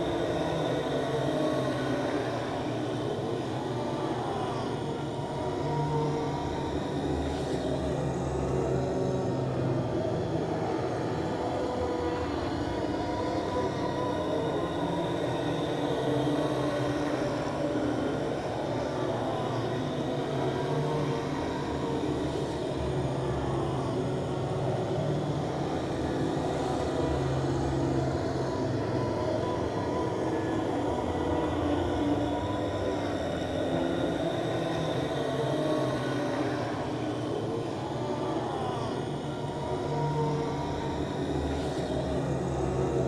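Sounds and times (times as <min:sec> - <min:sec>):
continuous drone: 0:00.0 - 0:43.0.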